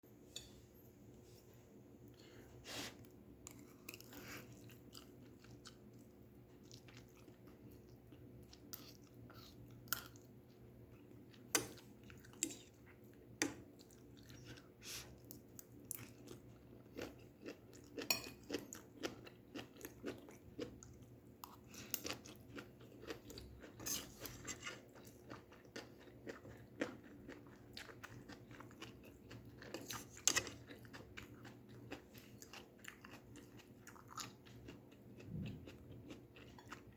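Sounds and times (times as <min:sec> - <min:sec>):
faint steady hum: 0:00.0 - 0:36.9
chewing and crunching vegetables: 0:03.0 - 0:36.9.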